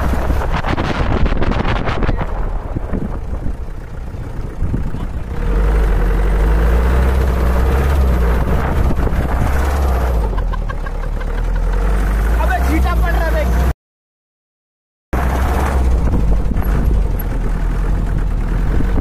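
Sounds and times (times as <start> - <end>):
jeep engine running: 0.0 - 13.7, 15.2 - 19.0.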